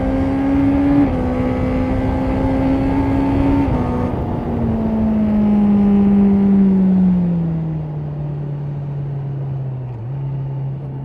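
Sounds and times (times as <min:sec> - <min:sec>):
motorcycle engine decelerating: 0:00.0 - 0:11.0.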